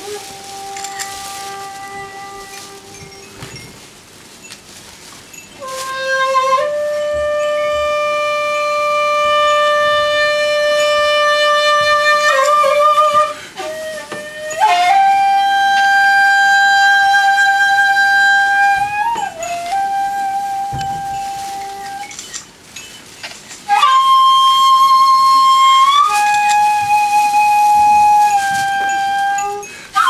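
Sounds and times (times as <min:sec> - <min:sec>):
bamboo flute playing long notes: 0:00.0 - 0:03.6, 0:05.6 - 0:22.4, 0:23.6 - 0:30.0.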